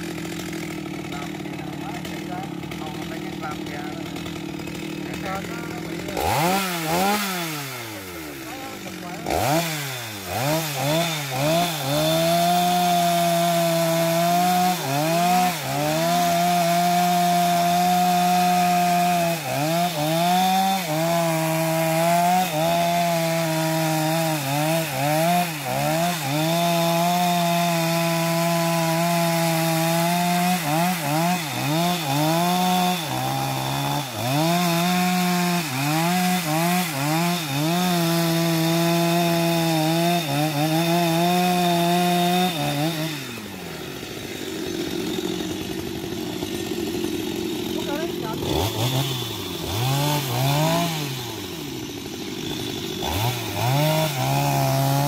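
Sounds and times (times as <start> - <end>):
chainsaw cutting tree trunk: 0.0 - 55.0.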